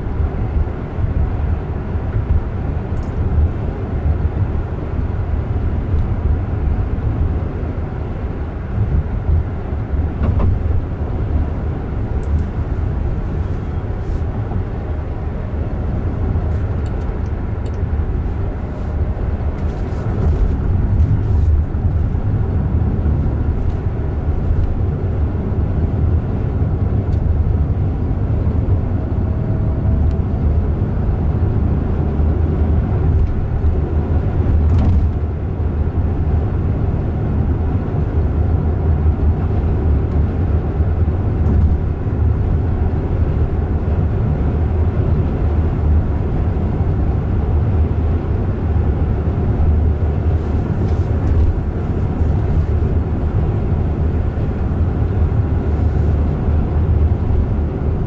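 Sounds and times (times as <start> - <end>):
road and tyre noise: 0.0 - 58.0.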